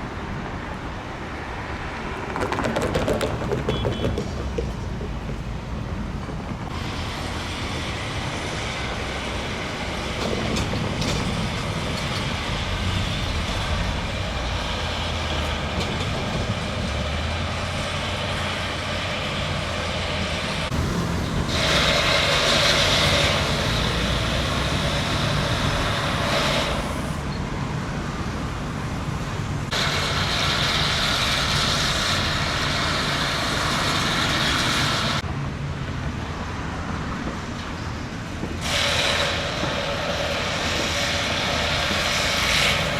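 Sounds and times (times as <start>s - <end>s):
hissy traffic noise: 0.0s - 42.9s
vehicle traffic rumble: 0.0s - 42.9s.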